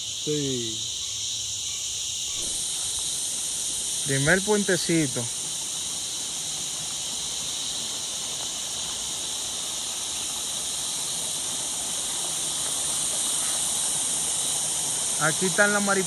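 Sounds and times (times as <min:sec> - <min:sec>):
cicadas chorus: 0:00.0 - 0:16.0.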